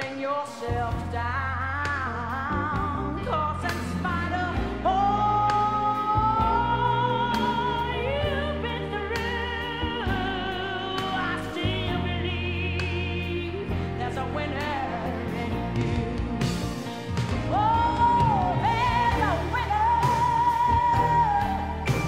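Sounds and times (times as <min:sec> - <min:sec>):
bass and accompaniment: 0:00.0 - 0:22.0.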